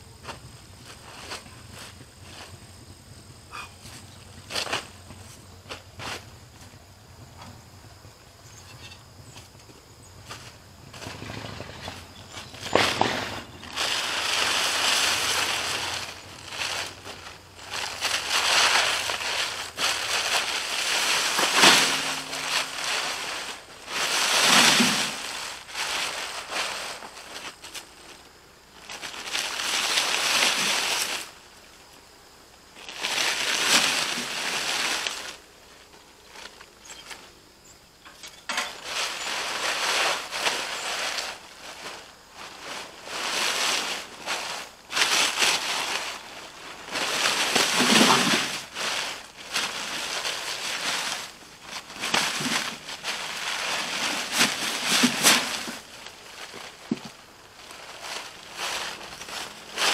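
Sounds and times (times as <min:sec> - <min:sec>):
plastic tarp rustling and crunching: 0:03.5 - 0:06.6, 0:10.4 - 0:31.7, 0:32.7 - 0:37.2, 0:38.4 - 0:59.9.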